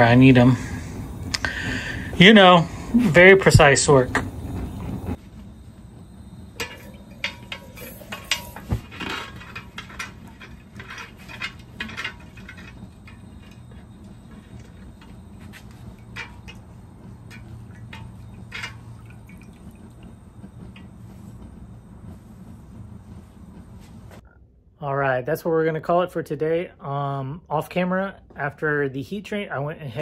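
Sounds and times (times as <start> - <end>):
quench oil crackling and popping: 0.0 - 24.2
steady low hum: 0.0 - 29.0.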